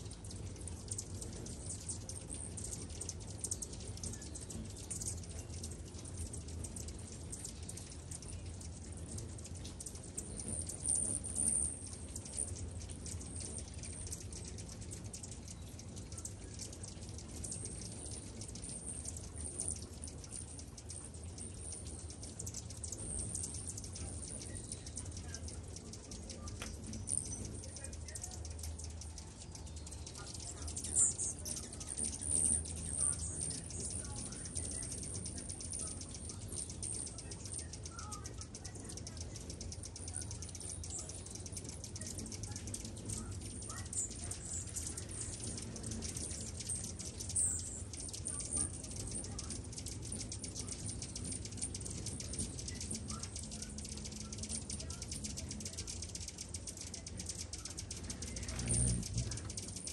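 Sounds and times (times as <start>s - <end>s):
hummingbirds chipping and twittering: 0.0s - 59.9s
low hum: 0.0s - 59.9s.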